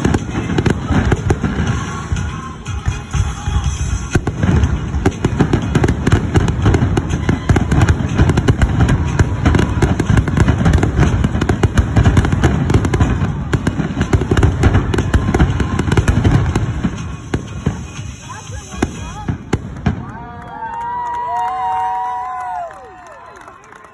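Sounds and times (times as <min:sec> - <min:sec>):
fireworks bangs and crackling: 0:00.0 - 0:22.6.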